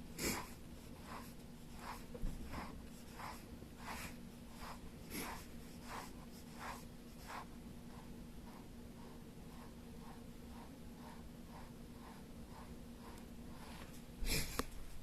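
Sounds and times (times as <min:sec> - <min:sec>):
faint steady hum: 0:00.0 - 0:15.0
soft scratching strokes: 0:00.0 - 0:15.0.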